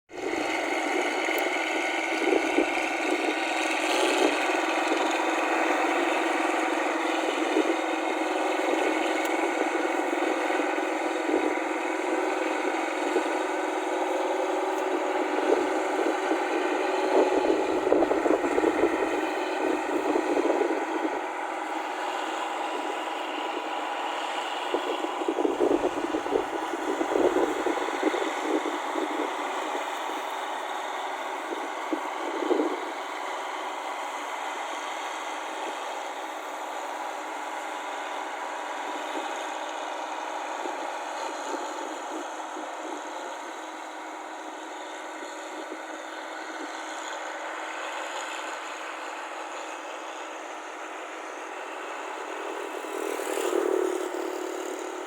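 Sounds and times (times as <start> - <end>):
combine harvester engine humming: 0.1 - 55.0.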